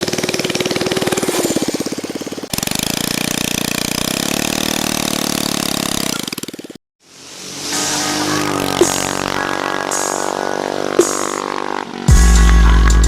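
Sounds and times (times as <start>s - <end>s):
small engine running and revving: 0.0s - 13.0s.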